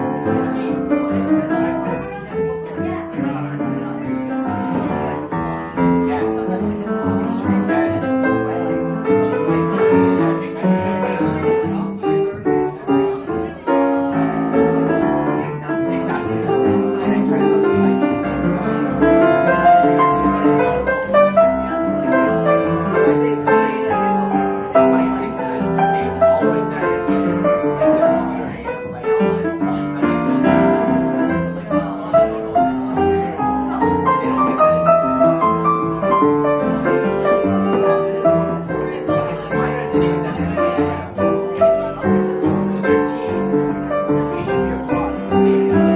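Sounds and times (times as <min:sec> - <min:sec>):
jazz piano: 0:00.0 - 0:45.9.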